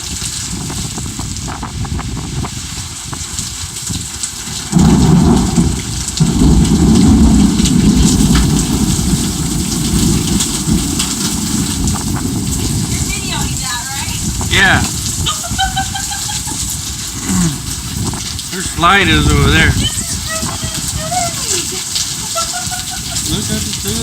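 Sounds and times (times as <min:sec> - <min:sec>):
low rumble of thunder: 0:00.0 - 0:15.9, 0:19.2 - 0:24.0
heavy rain pattering: 0:00.0 - 0:24.0.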